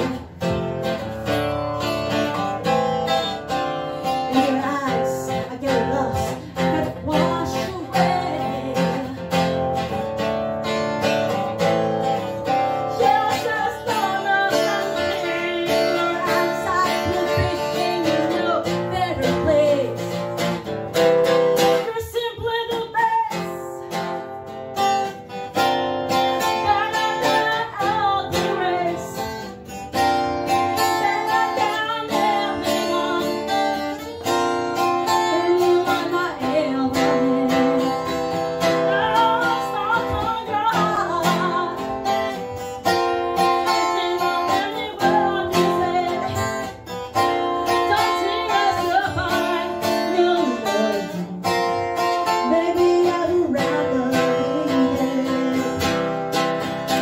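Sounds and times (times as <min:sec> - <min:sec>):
woman singing: 0:00.0 - 0:24.2, 0:26.1 - 0:57.0
strummed acoustic guitar: 0:00.0 - 0:57.0.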